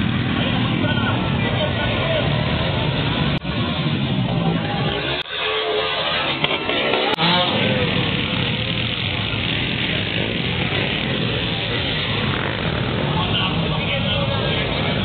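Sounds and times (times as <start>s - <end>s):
crowd talking: 0.0s - 15.0s
dirt bike engines revving: 0.0s - 15.0s.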